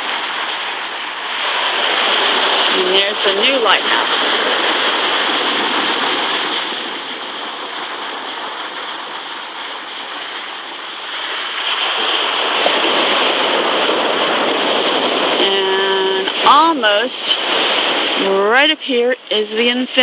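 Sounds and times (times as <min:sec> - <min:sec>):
ocean surf over rocks and sand: 0:00.0 - 0:20.0.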